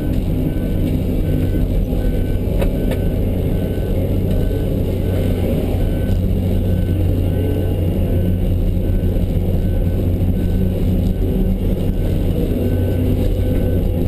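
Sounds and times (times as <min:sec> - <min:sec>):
backup alarm beeping: 0:00.0 - 0:14.0
diesel engine running: 0:00.0 - 0:14.0.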